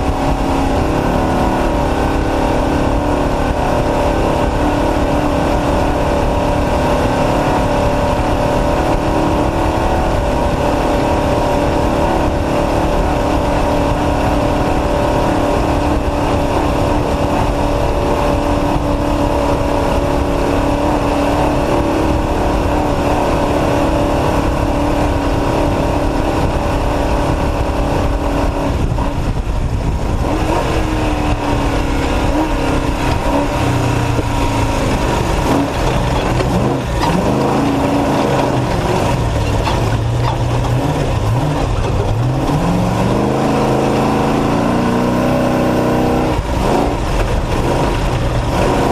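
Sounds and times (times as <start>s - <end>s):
truck engine running hard: 0.0s - 48.9s.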